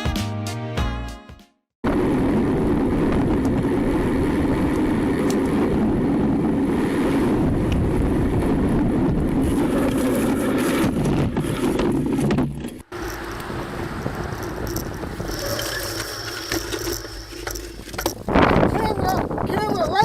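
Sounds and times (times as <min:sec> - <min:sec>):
car driving rumble: 0:01.9 - 0:20.0.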